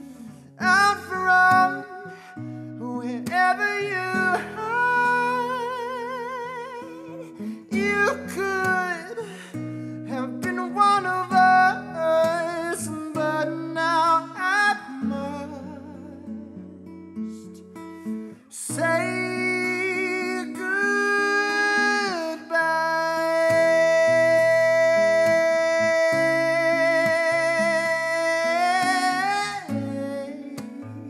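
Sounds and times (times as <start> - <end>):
man singing: 0.0 - 17.0, 18.4 - 31.0
acoustic guitar: 0.0 - 31.0.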